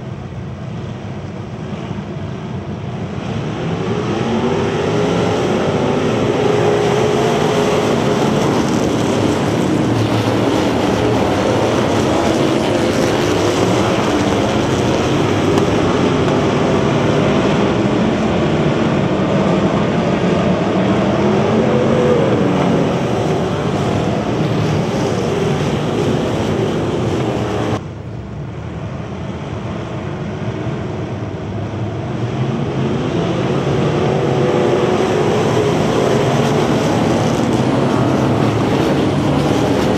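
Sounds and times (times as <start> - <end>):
race car engines at full throttle: 0.0 - 39.9.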